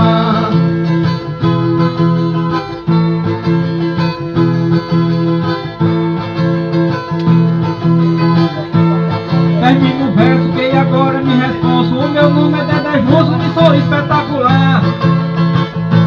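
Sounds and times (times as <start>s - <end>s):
viola strummed rhythmically: 0.0s - 16.0s.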